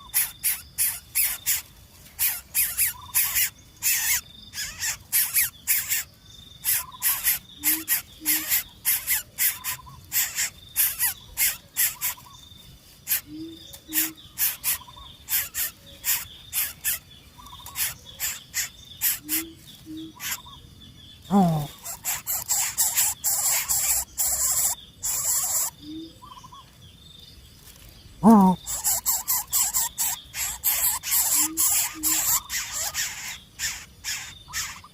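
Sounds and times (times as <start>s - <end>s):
high insect whine: 0.0s - 26.6s, 27.6s - 34.9s
birds chirping raspily: 0.0s - 34.9s.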